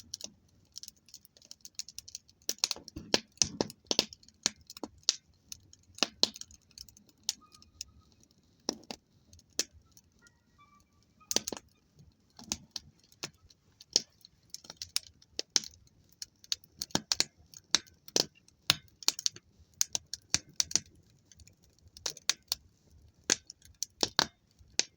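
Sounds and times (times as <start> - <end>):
campfire crackling: 0.0 - 24.9
faint steady hiss: 2.0 - 24.9.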